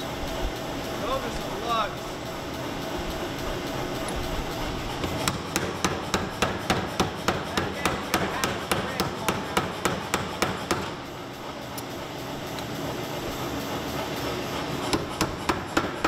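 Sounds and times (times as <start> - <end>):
power hammer striking hot steel: 0.0 - 16.0.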